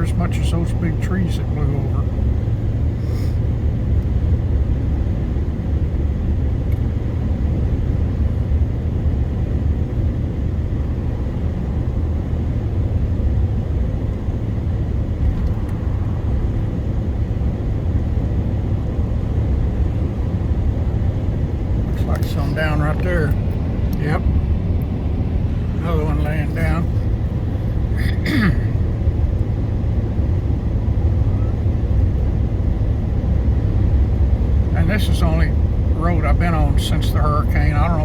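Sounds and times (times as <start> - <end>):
truck engine and tyre rumble: 0.0 - 38.0.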